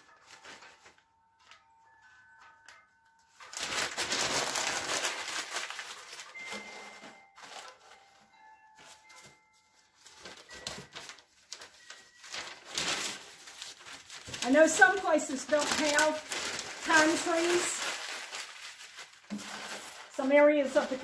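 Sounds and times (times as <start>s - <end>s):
newspaper crumpling: 0.0s - 21.0s
paper rustling: 0.0s - 21.0s.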